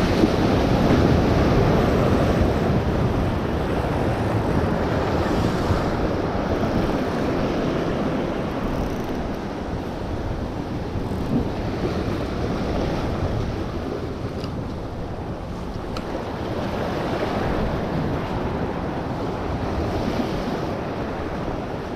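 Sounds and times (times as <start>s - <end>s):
ocean waves breaking on boulders: 0.0s - 21.9s
wind buffeting microphone: 0.0s - 21.9s.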